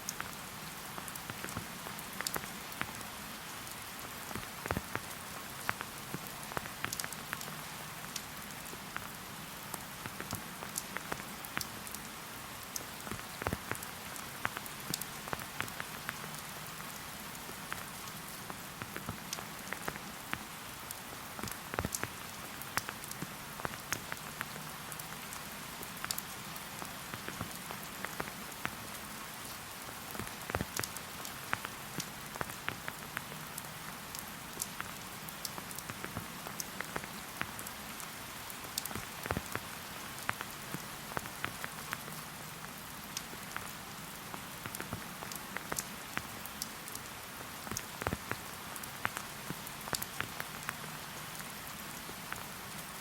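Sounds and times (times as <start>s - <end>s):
raindrops ticking: 0.0s - 53.0s
steady rain hiss: 0.0s - 53.0s.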